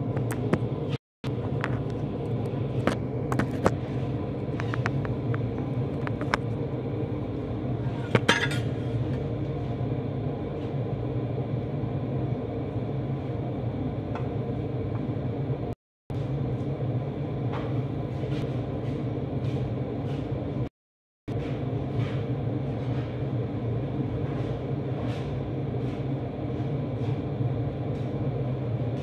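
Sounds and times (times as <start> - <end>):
kitchen hum and rumble: 0.0 - 20.7, 21.3 - 29.0.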